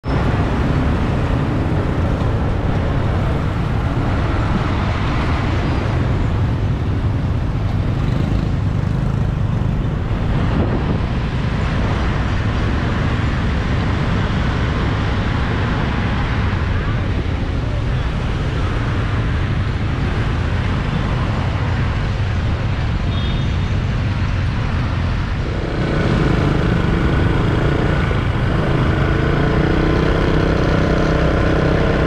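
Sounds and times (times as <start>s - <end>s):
traffic engines rumbling: 0.0s - 32.0s.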